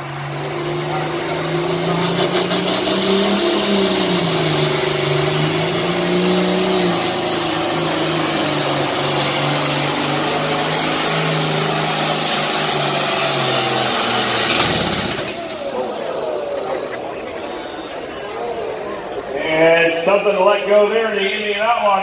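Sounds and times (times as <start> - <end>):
tractor engine running hard: 0.0 - 19.5.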